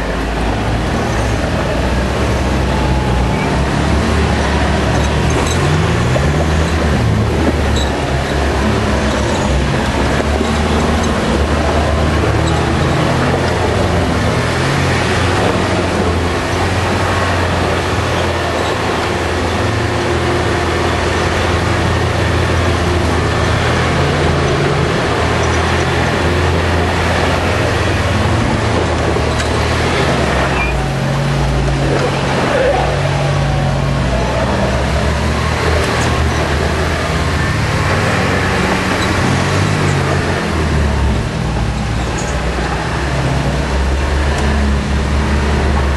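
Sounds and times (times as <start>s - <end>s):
off-road vehicle engine running: 0.0s - 45.9s
rattling and ground noise: 0.0s - 45.9s.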